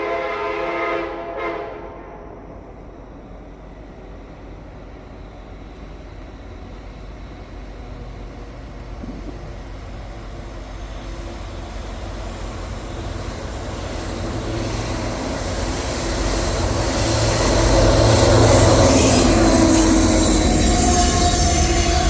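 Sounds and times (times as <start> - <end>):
locomotive engine rumble: 3.0 - 22.0.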